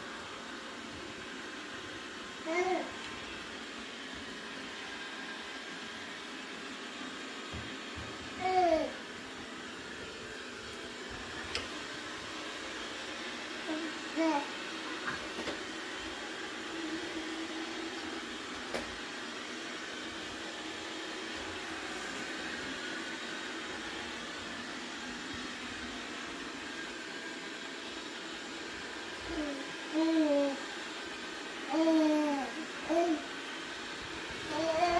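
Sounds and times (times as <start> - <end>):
robot vacuum cleaner whirring: 0.0 - 34.9.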